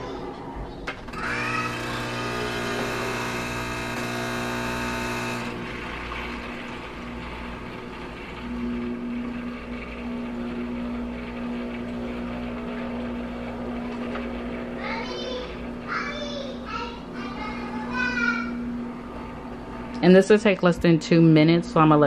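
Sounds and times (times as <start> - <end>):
coffee machine whirring: 0.8 - 21.2
pump humming: 1.0 - 20.0.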